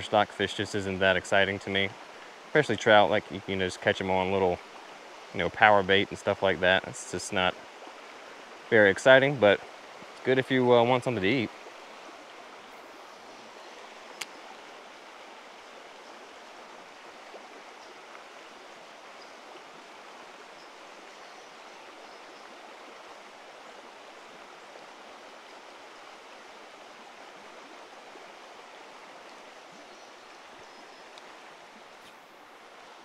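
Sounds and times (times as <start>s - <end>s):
river rushing over stones: 0.0s - 33.0s.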